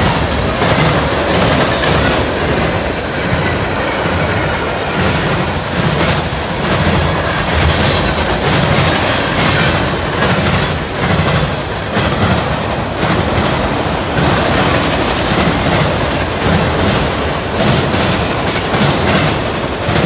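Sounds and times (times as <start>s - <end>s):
clickety-clack over rail joints: 0.0s - 20.0s
freight train wheels rumbling: 0.0s - 20.0s.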